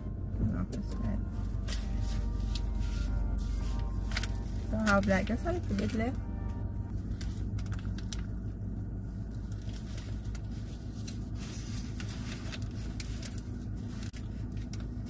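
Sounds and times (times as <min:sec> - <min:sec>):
low hum inside a car: 0:00.0 - 0:15.0
paper wrapper crinkling: 0:01.4 - 0:06.1, 0:06.9 - 0:15.0.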